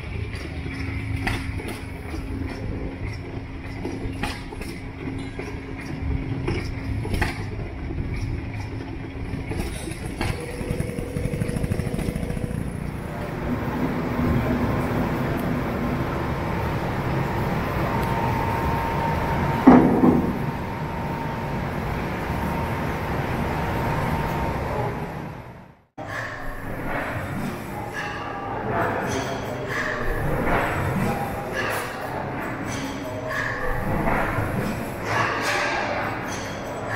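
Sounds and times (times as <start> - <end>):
steam engines running: 0.0 - 36.9.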